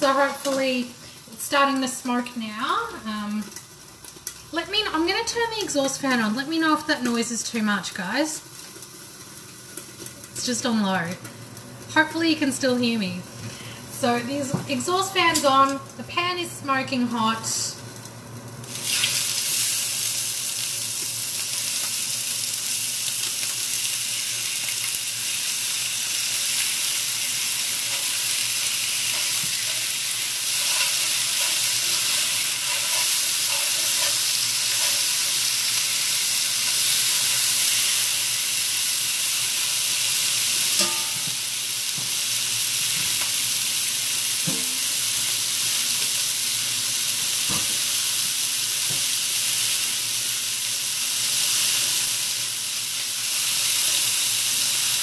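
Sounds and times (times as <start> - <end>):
chicken sizzling in frying pan: 0.0 - 55.0.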